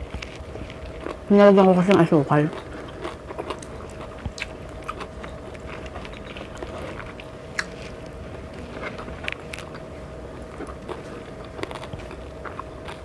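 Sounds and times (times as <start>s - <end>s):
faint steady hum: 0.0s - 13.0s
person chewing and eating: 0.0s - 13.0s.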